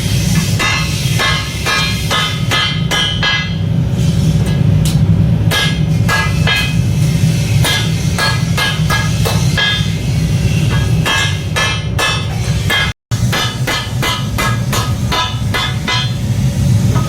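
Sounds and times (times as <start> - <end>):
hammer striking steel blade: 0.1 - 3.7, 4.4 - 17.0.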